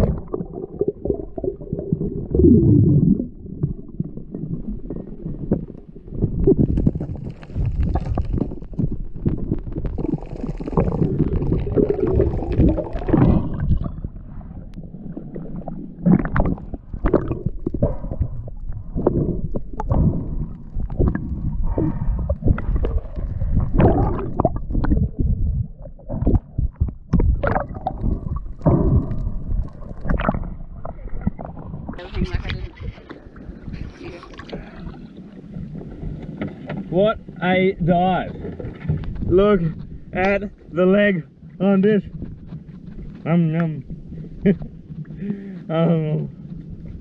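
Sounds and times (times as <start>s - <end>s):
underwater gurgling and rumbling: 0.0s - 47.0s.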